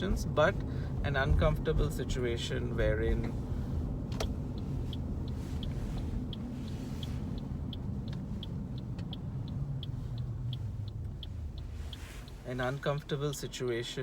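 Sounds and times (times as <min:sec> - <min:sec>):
car cabin rumble: 0:00.0 - 0:14.0
light regular ticking: 0:00.0 - 0:14.0.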